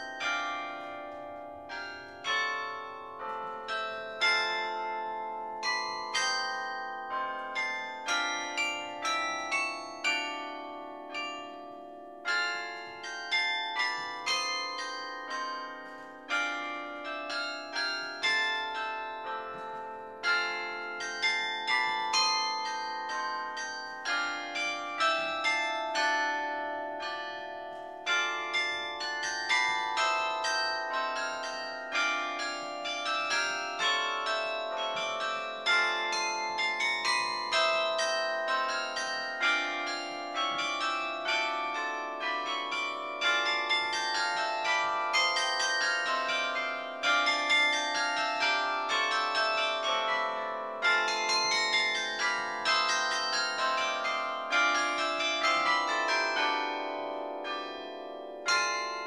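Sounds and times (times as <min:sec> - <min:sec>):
carillon bells playing melody: 0:00.0 - 0:59.0.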